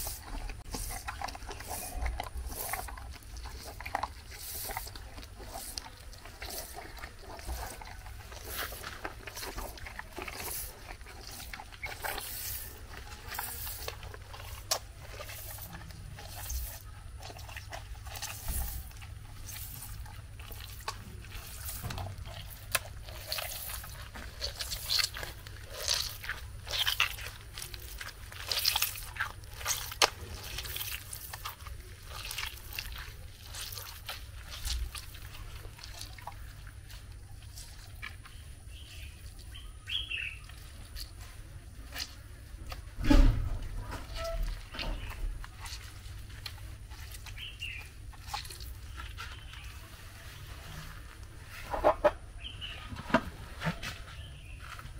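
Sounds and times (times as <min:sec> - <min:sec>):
juice splashing and dripping: 0:00.0 - 0:49.8
low steady hum: 0:00.0 - 0:54.9.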